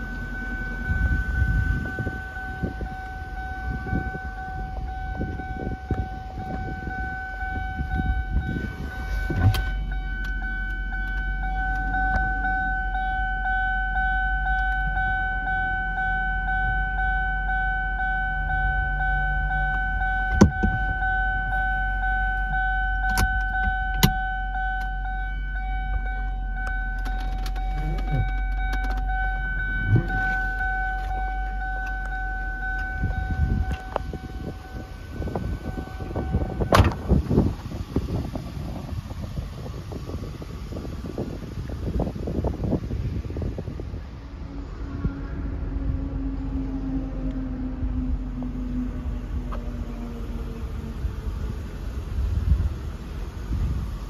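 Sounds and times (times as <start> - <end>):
car engine idling: 0.0 - 54.0
high-pitched whine: 0.0 - 54.0.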